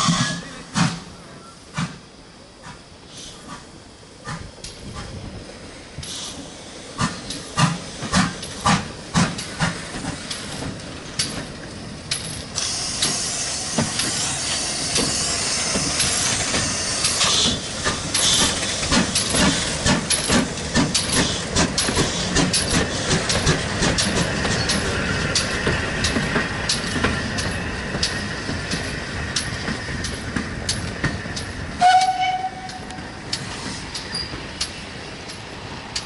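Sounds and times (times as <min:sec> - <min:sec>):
steam hissing: 0:00.0 - 0:36.0
steam locomotive exhaust beats: 0:00.0 - 0:36.0.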